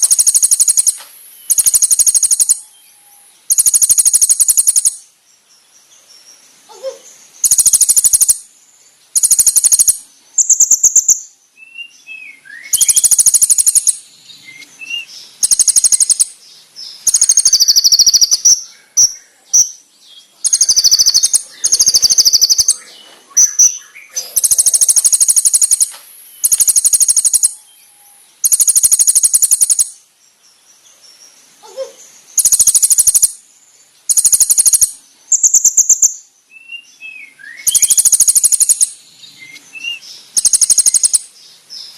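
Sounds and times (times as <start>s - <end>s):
sunbird trilling: 0.0s - 5.1s, 6.7s - 8.5s, 9.1s - 30.0s, 31.6s - 33.4s, 34.0s - 41.9s.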